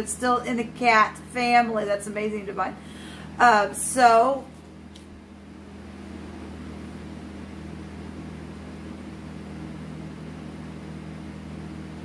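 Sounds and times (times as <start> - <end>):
steady low hum with faint hiss: 0.0 - 12.0.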